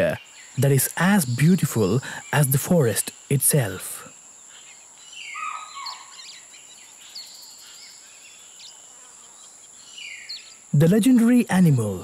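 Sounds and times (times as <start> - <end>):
high-pitched insect drone: 0.0 - 12.0
wild birds calling: 0.0 - 12.0.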